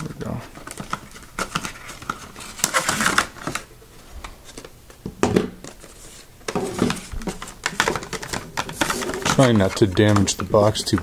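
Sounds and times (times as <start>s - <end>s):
plastic packaging crackling: 0.1s - 3.7s, 5.6s - 11.0s.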